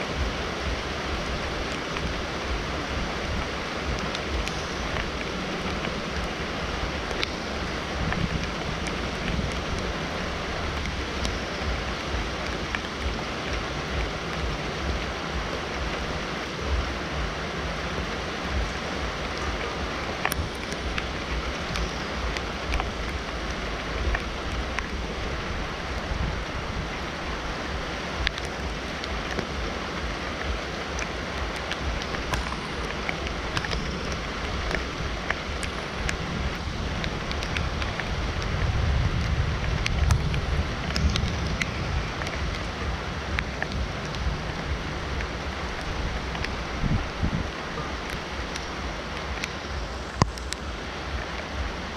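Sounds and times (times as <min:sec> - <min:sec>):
heavy rain falling: 0:00.0 - 0:51.9
low rumble: 0:00.0 - 0:51.9
raindrops ticking close by: 0:00.0 - 0:51.9.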